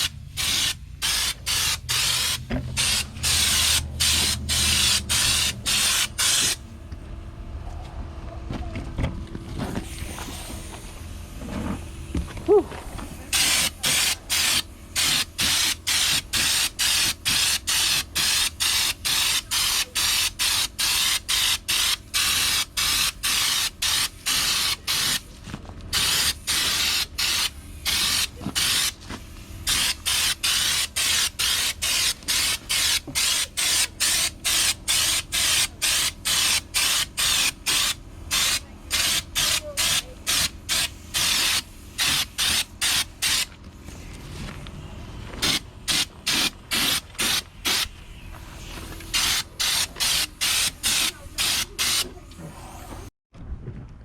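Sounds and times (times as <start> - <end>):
air spray gun hissing: 0.0 - 6.7, 13.1 - 25.3, 25.9 - 43.5, 45.4 - 53.1.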